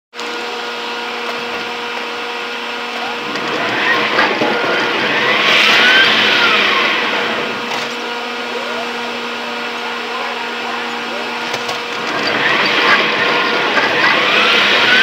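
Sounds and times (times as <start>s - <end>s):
steady motor hum: 0.2s - 15.0s.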